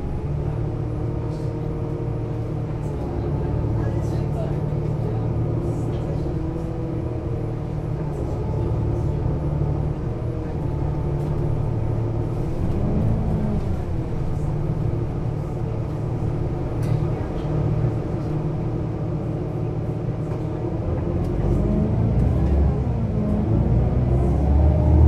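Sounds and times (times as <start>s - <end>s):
bus engine drone: 0.0s - 25.0s.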